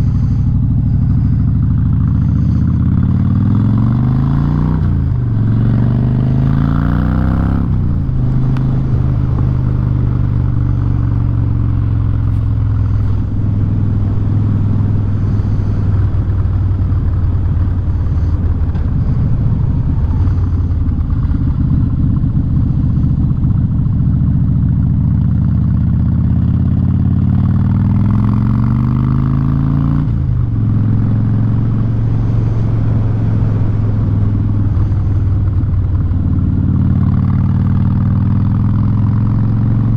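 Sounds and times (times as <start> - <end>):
motorcycle engine with loud exhaust: 0.0 - 39.9.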